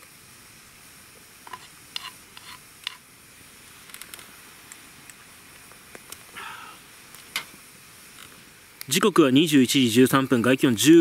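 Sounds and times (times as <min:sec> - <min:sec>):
campfire crackling: 0:00.0 - 0:11.0
faint steady hiss: 0:00.0 - 0:11.0.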